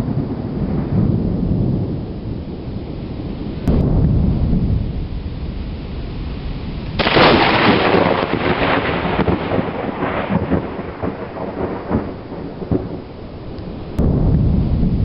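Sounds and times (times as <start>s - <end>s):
thunder crackling and rumbling: 0.0s - 15.0s.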